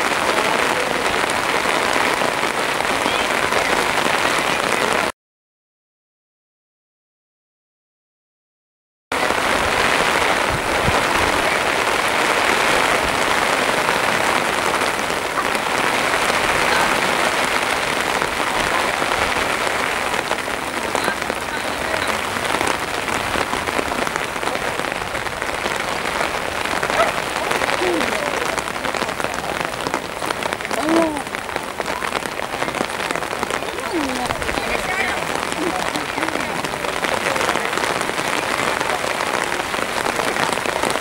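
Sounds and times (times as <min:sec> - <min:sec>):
steady rain falling: 0:00.0 - 0:05.1, 0:09.1 - 0:41.0.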